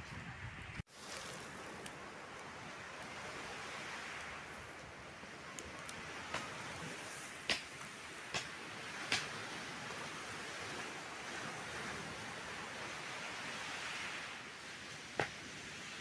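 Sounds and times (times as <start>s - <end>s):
surf on pebble beach: 0.8s - 16.0s.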